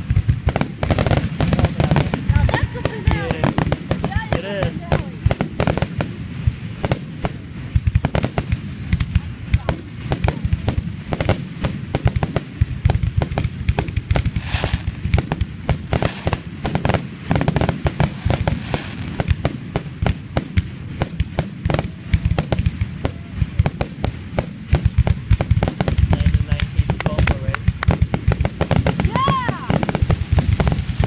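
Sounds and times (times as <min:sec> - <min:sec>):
fireworks barrage: 0:00.0 - 0:31.0.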